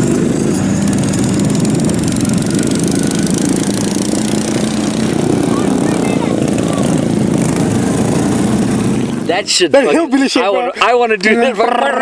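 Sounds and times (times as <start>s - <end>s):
lawn mower engines running: 0.0s - 11.4s.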